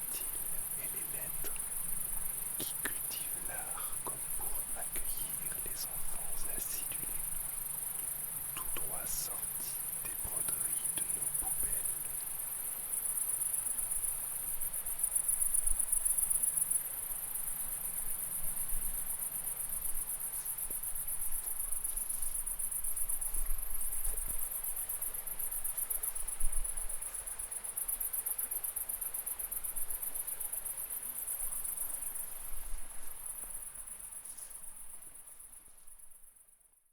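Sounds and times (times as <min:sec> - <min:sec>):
crickets chirping: 0:00.0 - 0:36.9.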